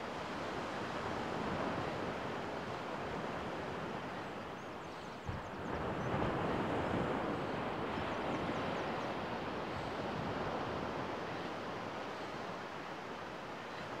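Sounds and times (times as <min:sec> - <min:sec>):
waves washing on sandy shore: 0:00.0 - 0:14.0.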